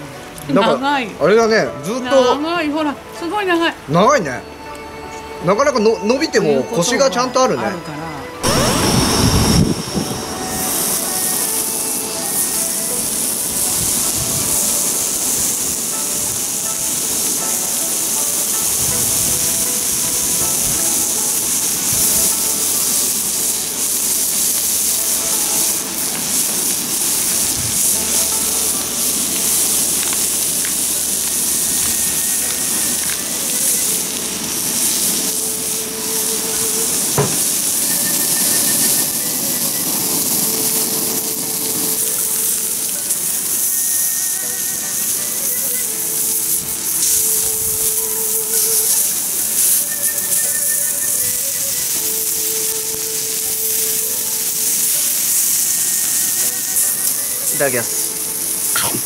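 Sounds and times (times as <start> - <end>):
meat sizzling on a griddle: 8.4 - 59.0.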